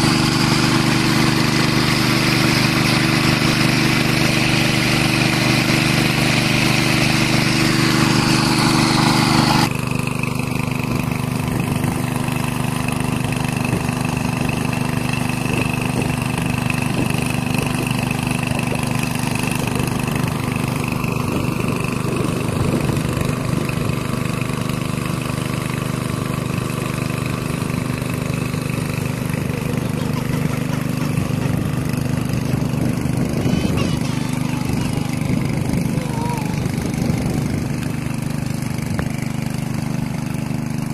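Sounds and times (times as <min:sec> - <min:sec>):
small petrol engine running: 0:00.0 - 0:40.9
water gushing from pipe: 0:00.0 - 0:40.9.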